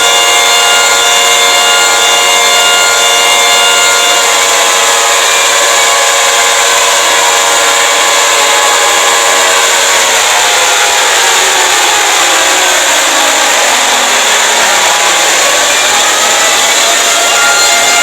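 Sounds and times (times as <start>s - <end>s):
harsh noise: 0.0s - 18.0s.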